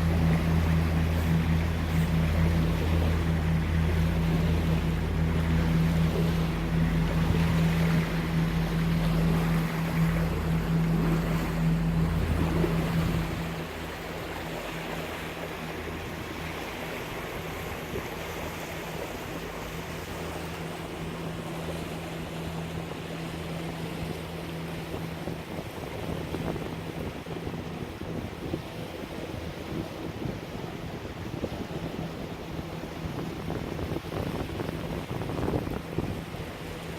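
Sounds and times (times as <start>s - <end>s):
boat engine humming: 0.0s - 36.9s
water rushing: 0.0s - 36.9s
wind on microphone: 0.0s - 36.9s.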